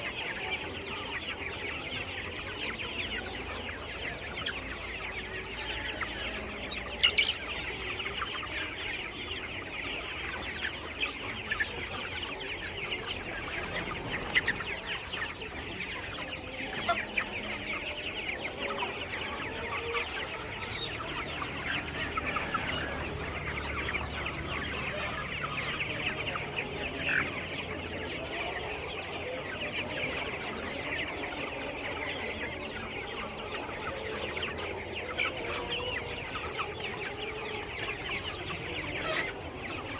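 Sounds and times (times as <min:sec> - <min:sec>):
chickens clucking: 0:00.0 - 0:39.9
sharp chicken calls: 0:00.0 - 0:39.9.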